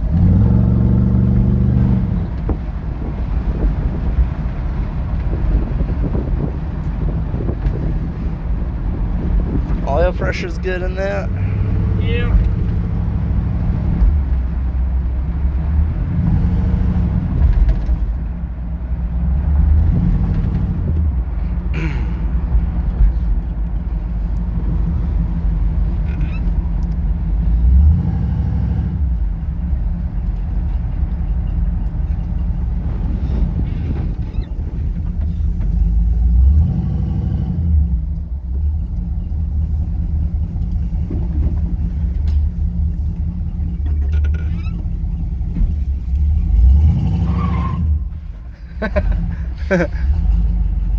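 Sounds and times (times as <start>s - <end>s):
engine rumbling and revving: 0.0s - 50.9s.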